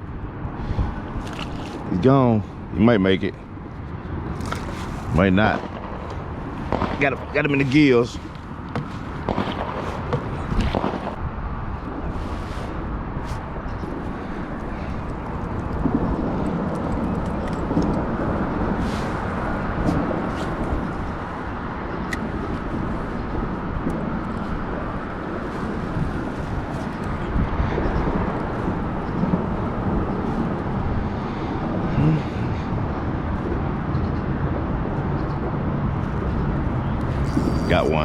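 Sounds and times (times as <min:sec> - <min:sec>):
wind on microphone: 0:00.0 - 0:38.0.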